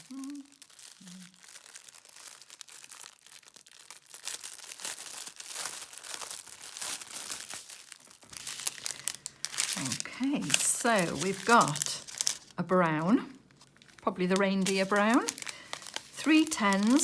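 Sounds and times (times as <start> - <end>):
cellophane crinkling: 0.0 - 17.0.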